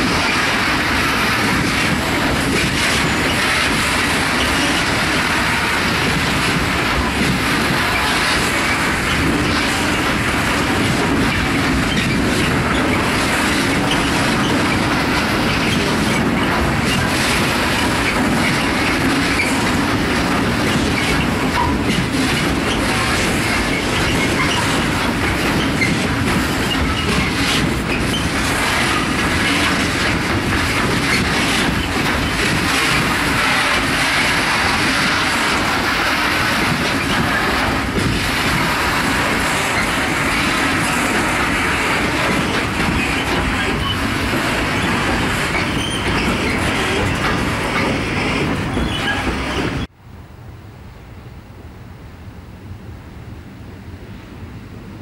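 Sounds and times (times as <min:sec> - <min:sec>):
rail clicks: 0:00.0 - 0:49.9
train wheels on rails: 0:00.0 - 0:50.0.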